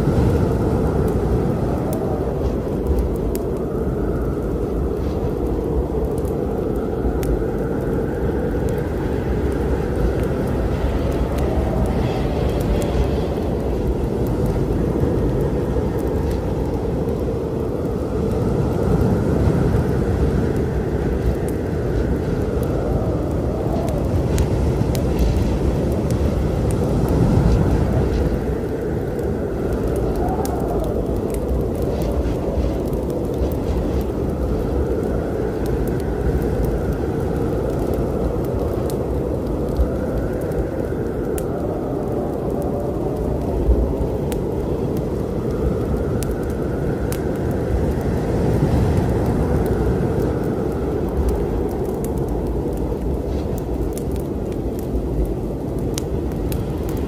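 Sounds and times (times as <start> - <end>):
deep steady storm rumble: 0.0 - 57.0
wood fire crackling: 0.0 - 57.0.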